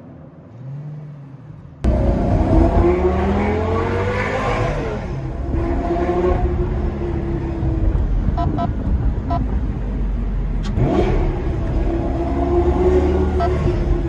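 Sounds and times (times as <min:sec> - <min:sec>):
sports car engine at low revs: 0:00.4 - 0:14.0.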